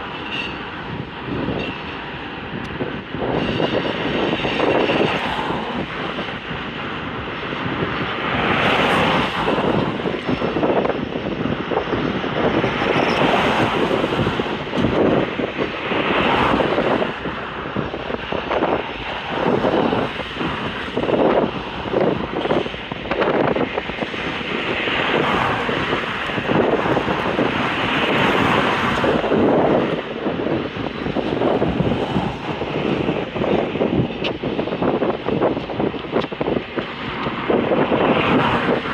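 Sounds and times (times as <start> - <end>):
freight train rolling past: 0.0 - 35.6.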